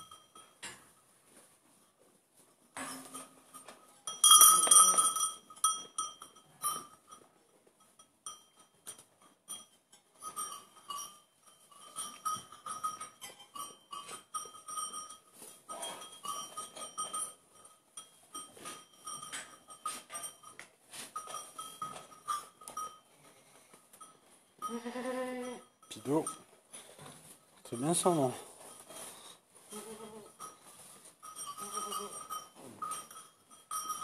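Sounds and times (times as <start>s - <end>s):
goat bell clinking: 0.0s - 34.0s.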